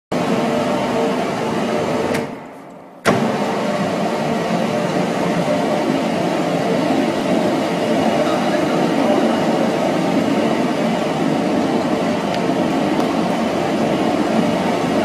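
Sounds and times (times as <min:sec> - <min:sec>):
washing machine humming and churning: 0:00.1 - 0:15.0.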